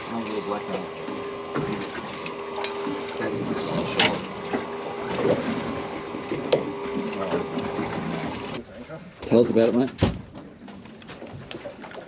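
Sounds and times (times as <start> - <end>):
water against boat hull: 0.0 - 12.0.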